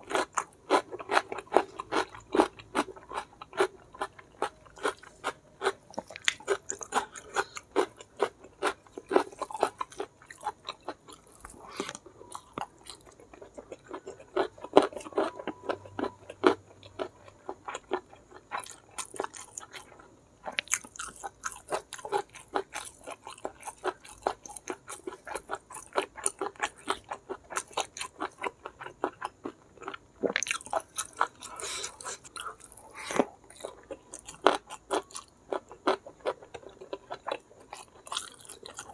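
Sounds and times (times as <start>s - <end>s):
close chewing clicks: 0.0s - 38.9s.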